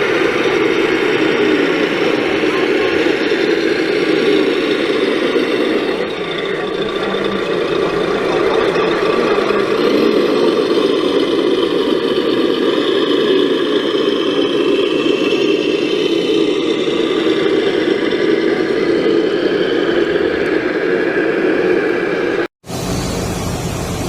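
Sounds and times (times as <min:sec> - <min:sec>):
vehicle engine running steadily: 0:00.0 - 0:24.0.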